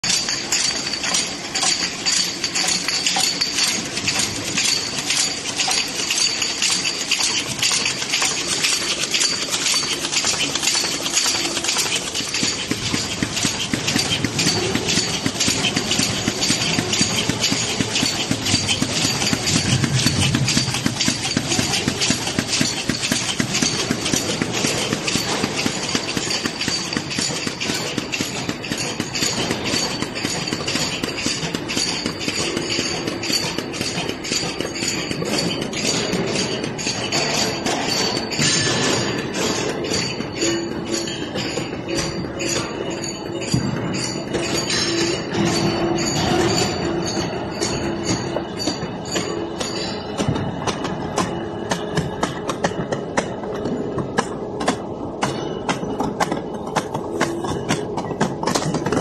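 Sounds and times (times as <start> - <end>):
cartoning machine clattering: 0.0 - 59.0.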